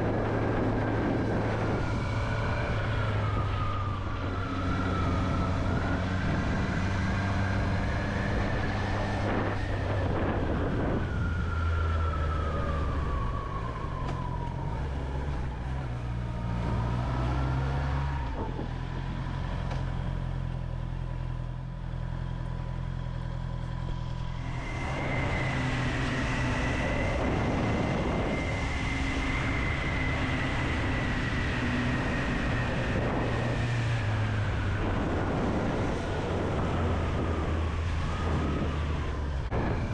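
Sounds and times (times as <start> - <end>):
wind noise: 0.0 - 21.5, 23.8 - 39.9.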